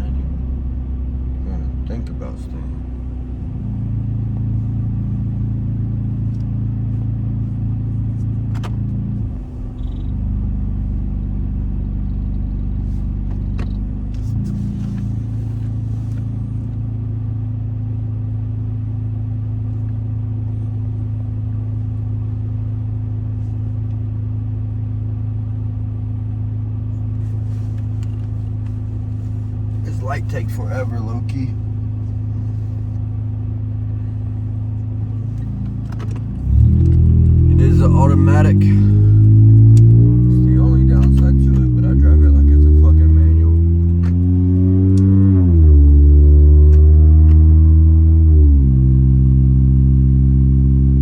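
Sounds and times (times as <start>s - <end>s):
car engine droning: 0.0s - 51.0s.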